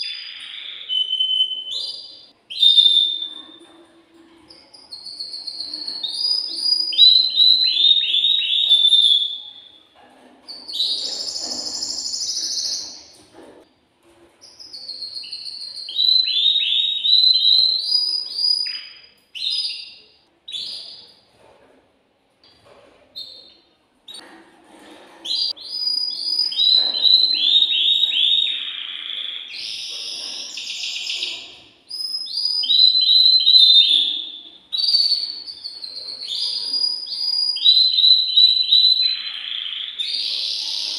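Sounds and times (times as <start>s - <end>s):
canary singing trills: 0.0s - 3.7s, 4.6s - 9.8s, 10.5s - 13.2s, 14.4s - 21.3s, 25.2s - 40.9s.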